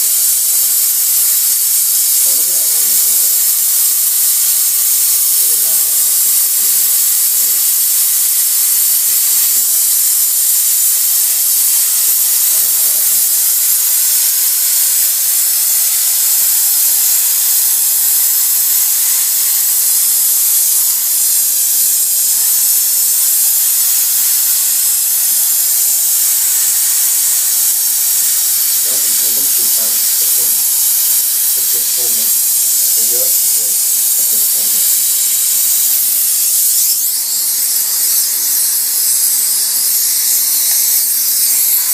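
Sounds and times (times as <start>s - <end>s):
steamer hissing steam: 0.0s - 41.9s.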